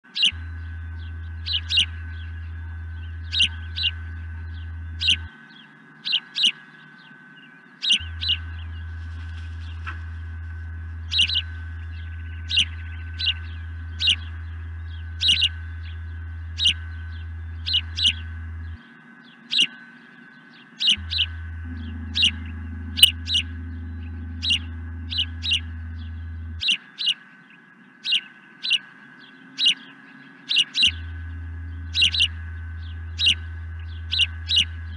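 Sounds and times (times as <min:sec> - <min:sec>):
steady low hum: 0:00.0 - 0:34.9
osprey whistled chirps: 0:00.1 - 0:10.0, 0:11.0 - 0:34.9.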